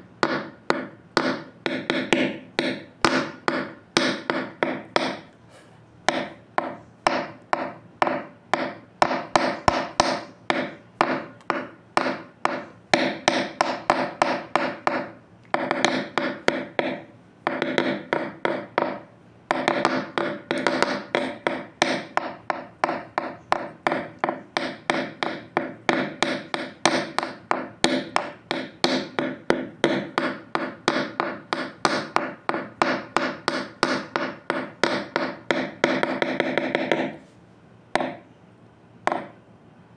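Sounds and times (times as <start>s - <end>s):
rapid ringing pitched knocks: 0.2s - 5.3s, 6.1s - 37.2s.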